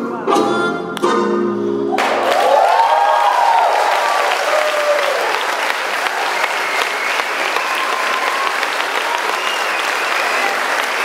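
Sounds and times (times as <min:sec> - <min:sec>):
audience applauding: 0:02.0 - 0:11.0
crowd cheering: 0:02.0 - 0:11.0.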